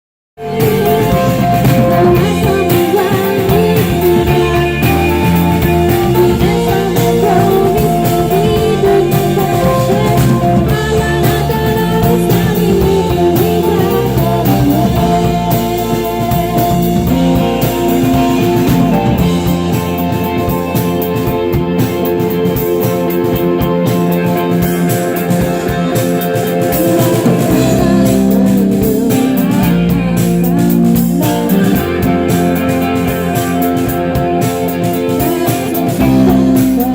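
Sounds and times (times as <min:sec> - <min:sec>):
drum kit: 0:00.4 - 0:36.9
electric guitars: 0:00.4 - 0:36.9.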